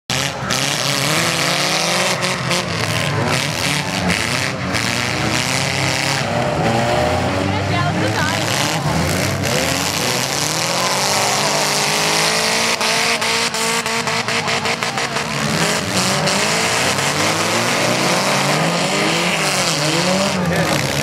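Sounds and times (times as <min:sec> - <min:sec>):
car engines revving: 0:00.1 - 0:21.0.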